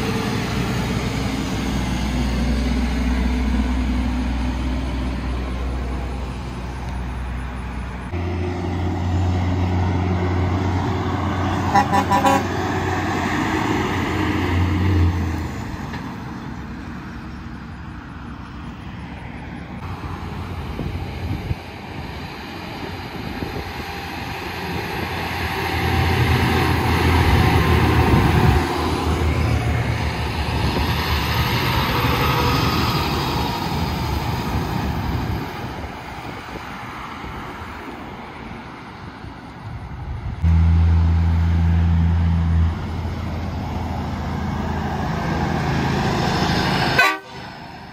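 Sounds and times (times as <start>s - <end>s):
loud low engine drone: 0.0s - 35.7s, 39.9s - 47.9s
heavy trucks passing: 0.0s - 47.9s.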